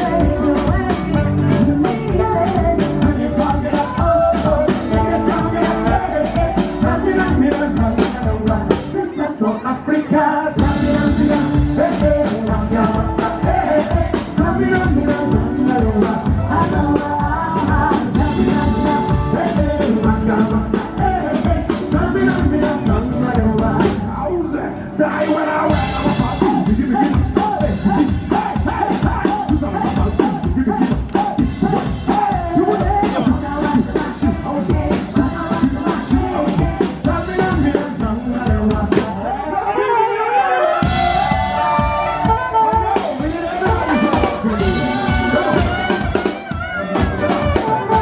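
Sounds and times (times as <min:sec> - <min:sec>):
live band playing upbeat music: 0:00.0 - 0:48.0
person singing: 0:00.0 - 0:48.0.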